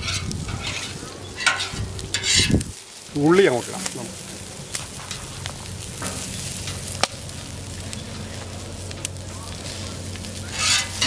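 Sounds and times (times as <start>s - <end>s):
metal spatula scraping griddle: 0.0s - 2.8s, 3.4s - 11.0s
onions sizzling in oil: 0.0s - 11.0s.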